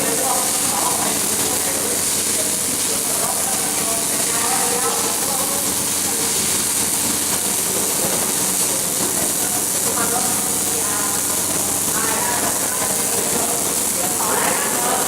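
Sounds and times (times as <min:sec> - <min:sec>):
faint voices: 0:00.0 - 0:15.0
welding arc hissing: 0:00.0 - 0:15.0.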